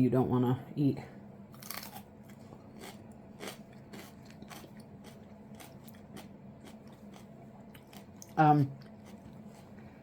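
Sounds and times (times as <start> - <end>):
chewing crunchy pepper: 1.5 - 9.8.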